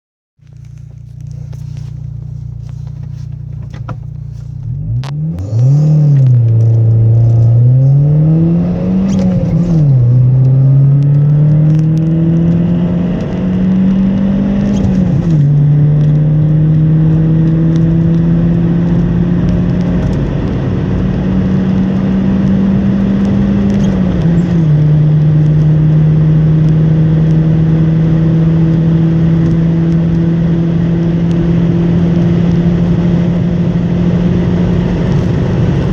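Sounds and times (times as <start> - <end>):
car engine accelerating: 0.4 - 35.9.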